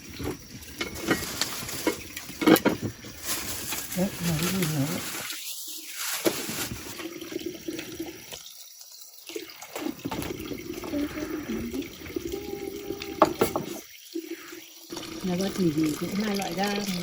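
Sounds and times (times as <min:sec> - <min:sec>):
water running and splashing: 0:00.0 - 0:17.0.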